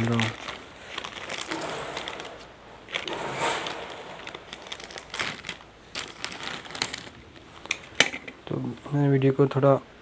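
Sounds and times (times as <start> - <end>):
packaging crinkling and crackling: 0.0 - 8.3.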